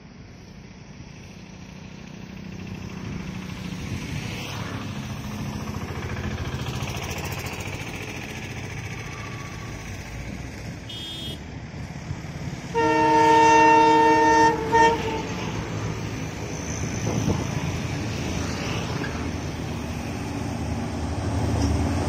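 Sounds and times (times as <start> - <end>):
diesel locomotive engine: 0.0 - 22.0
rumble of train coaches: 0.0 - 22.0.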